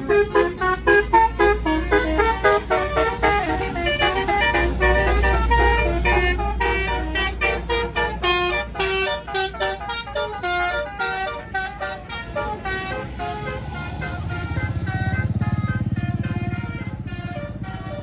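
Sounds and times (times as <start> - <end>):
bus engine rumble: 0.0 - 18.0
bus horn playing a fast melody: 0.0 - 18.0.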